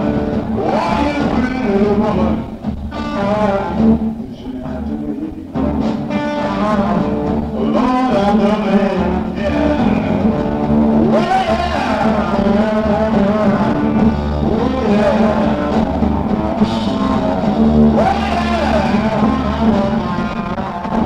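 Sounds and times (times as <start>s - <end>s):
bass and drums: 0.0s - 21.0s
electric blues guitar: 0.0s - 21.0s
person singing: 0.0s - 21.0s.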